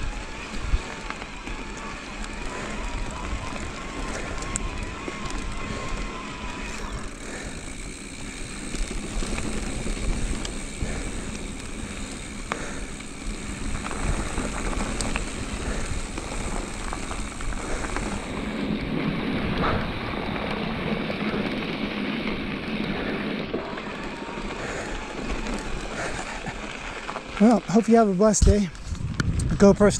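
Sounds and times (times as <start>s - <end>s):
wind rushing over microphone: 0.0s - 26.2s, 28.7s - 29.9s
tyres crunching over gravel: 0.0s - 29.6s
bike clicks and rattles: 0.0s - 29.9s.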